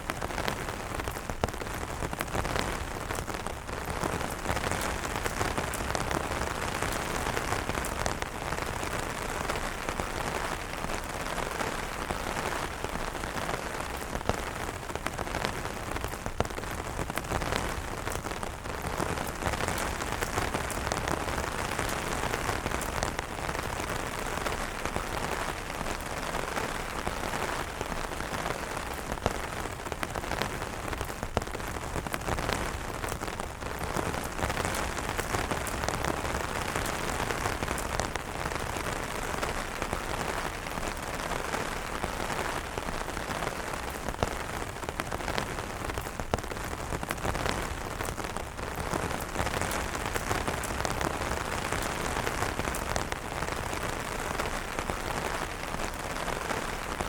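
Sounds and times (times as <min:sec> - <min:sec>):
rain on umbrellas: 0:00.0 - 0:57.0.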